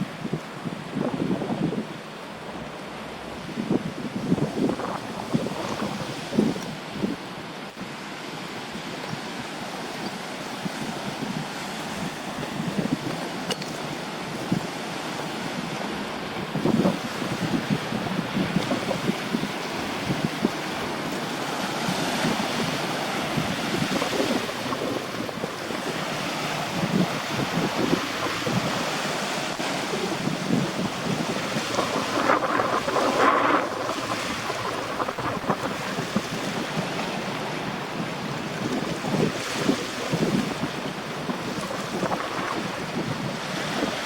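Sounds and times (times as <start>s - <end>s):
surf washing: 0.0s - 44.0s
wind gusting over microphone: 0.0s - 44.0s.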